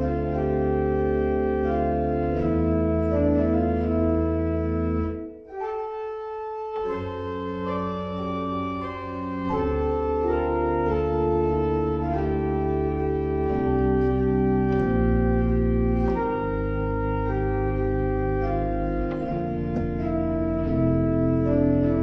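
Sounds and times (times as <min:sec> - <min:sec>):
pipe organ chords: 0:00.0 - 0:22.0.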